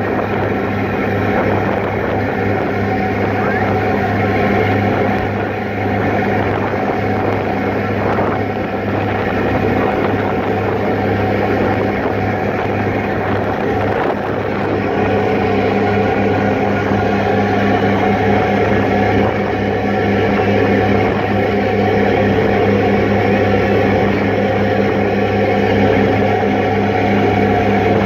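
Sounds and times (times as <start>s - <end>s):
ferry engines humming: 0.0s - 28.0s
rush of wind and water: 0.0s - 28.0s.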